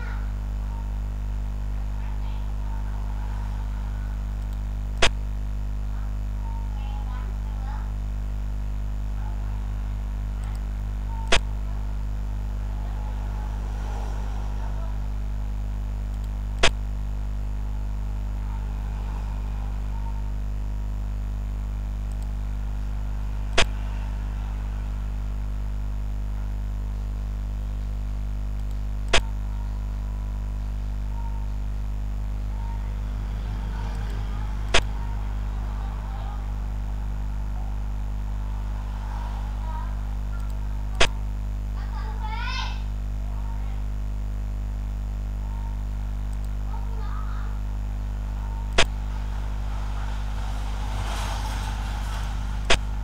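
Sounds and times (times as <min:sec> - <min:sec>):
low electrical hum: 0:00.0 - 0:53.0.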